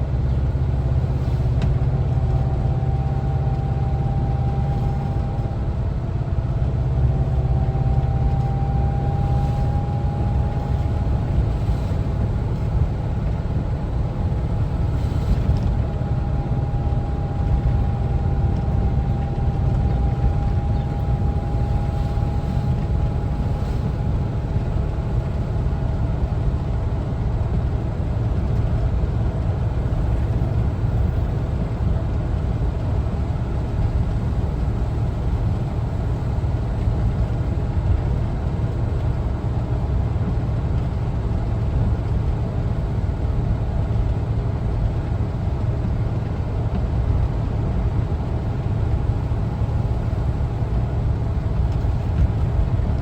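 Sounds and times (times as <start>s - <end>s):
van engine rumble while driving: 0.0s - 53.0s.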